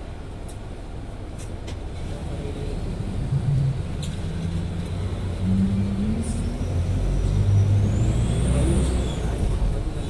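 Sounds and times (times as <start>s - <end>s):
motor vehicle rumbling: 0.0s - 10.0s.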